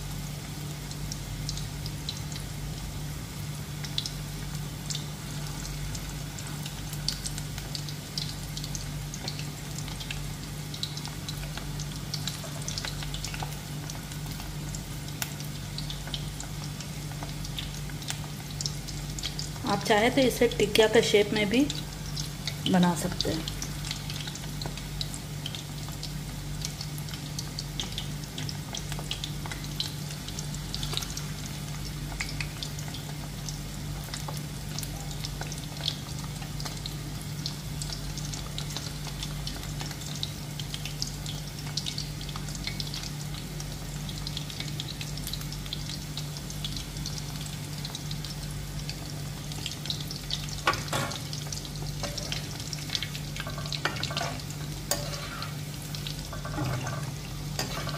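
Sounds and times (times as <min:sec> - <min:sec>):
food deep-frying in oil: 0:00.0 - 0:57.9.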